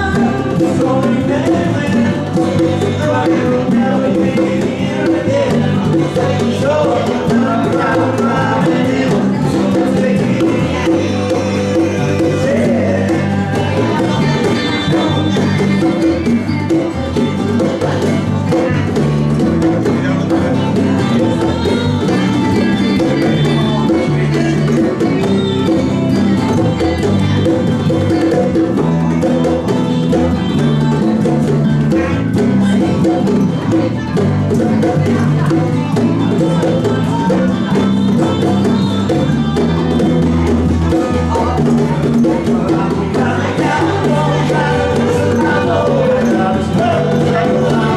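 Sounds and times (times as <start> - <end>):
small band playing live: 0.0 - 47.9.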